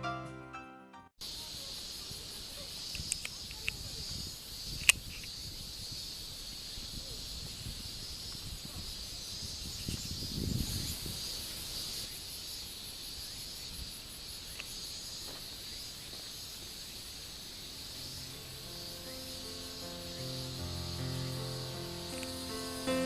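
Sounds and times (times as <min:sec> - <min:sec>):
insects buzzing: 0:01.2 - 0:23.0.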